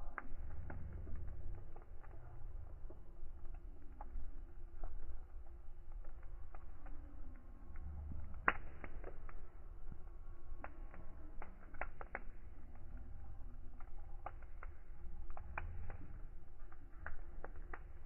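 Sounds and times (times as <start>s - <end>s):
fire crackling: 0.0s - 18.0s
low rumble of flames: 0.0s - 18.0s.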